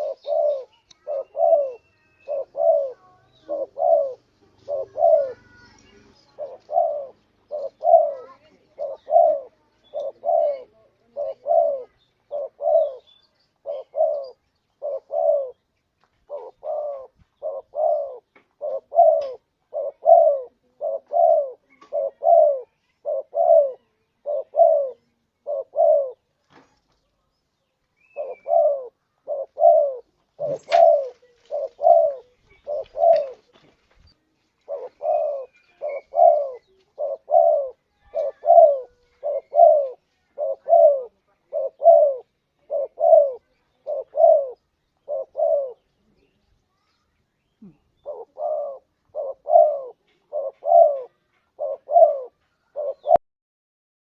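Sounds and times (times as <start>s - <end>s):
dove cooing: 0.0s - 26.3s, 28.0s - 33.7s, 34.6s - 46.4s, 47.6s - 53.2s.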